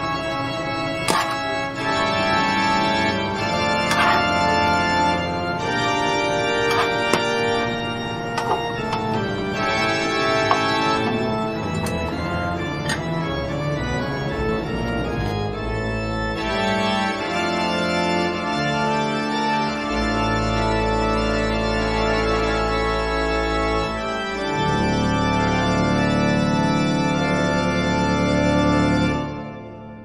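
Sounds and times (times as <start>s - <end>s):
background music of held chords: 0.0s - 30.0s.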